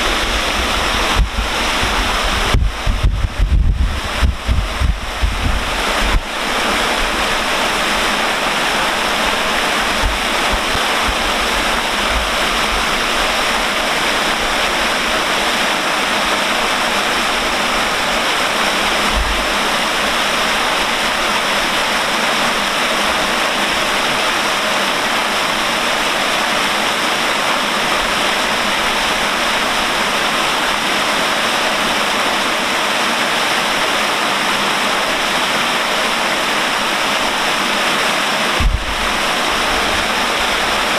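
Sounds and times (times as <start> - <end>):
water falling into canal: 0.0 - 40.9.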